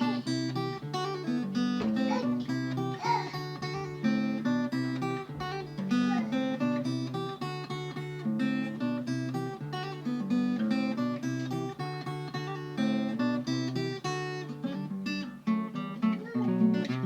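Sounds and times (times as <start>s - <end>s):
acoustic guitar plucked chords: 0.0s - 17.0s.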